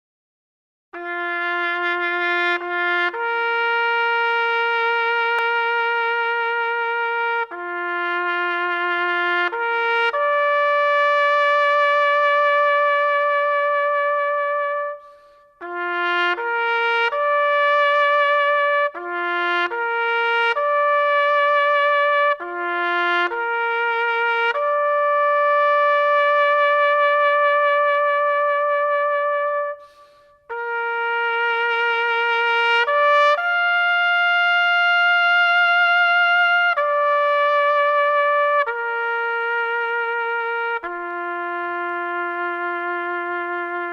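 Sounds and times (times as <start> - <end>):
solo brass bugle call: 1.0 - 43.9.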